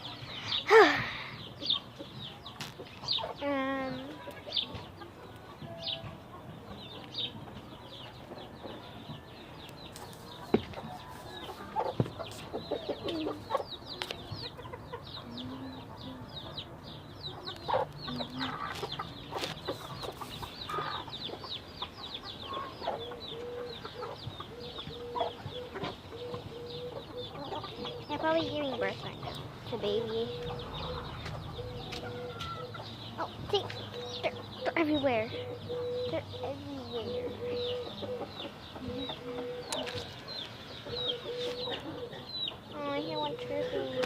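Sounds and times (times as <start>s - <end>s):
chicks peeping: 0.0s - 44.0s
hens clucking: 1.3s - 44.0s.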